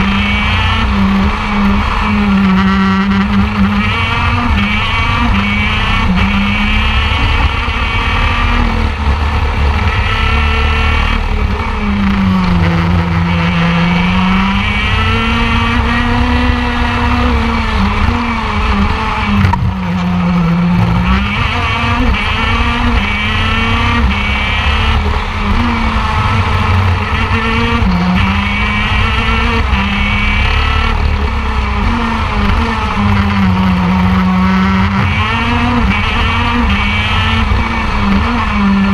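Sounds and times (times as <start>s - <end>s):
kart engine at high revs: 0.0s - 38.9s.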